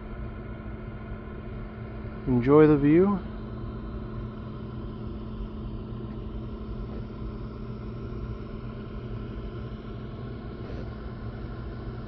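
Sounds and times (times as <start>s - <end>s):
heating unit rumble and hum: 0.0s - 12.0s.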